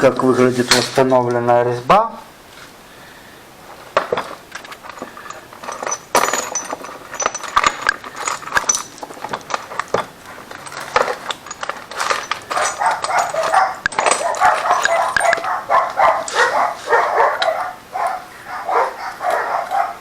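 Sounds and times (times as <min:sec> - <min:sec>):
metal tools clinking and scraping: 0:00.0 - 0:01.4, 0:03.6 - 0:20.0.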